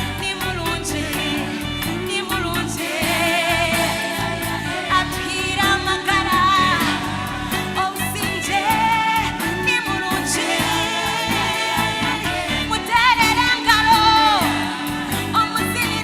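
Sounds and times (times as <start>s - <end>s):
band playing a song: 0.0s - 16.0s
person singing with vibrato: 0.0s - 16.0s.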